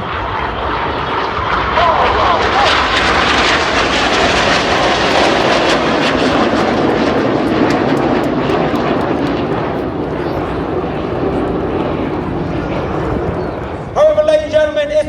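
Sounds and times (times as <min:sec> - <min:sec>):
jets flying low past: 0:00.0 - 0:14.8.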